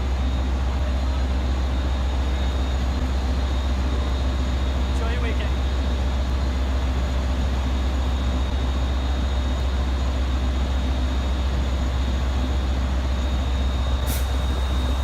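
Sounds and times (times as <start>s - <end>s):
diesel locomotive rumble: 0.0s - 15.0s
faint high whine: 0.0s - 15.0s.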